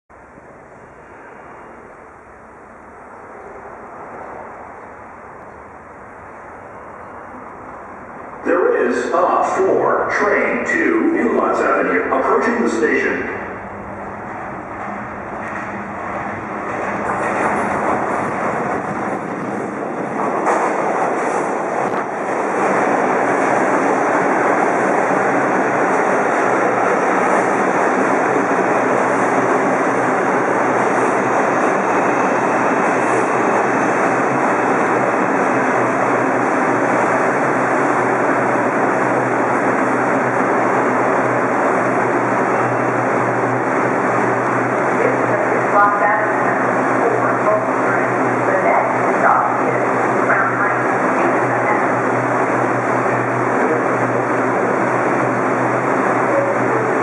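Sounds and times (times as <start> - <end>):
subway train rumbling: 0.1 - 57.0.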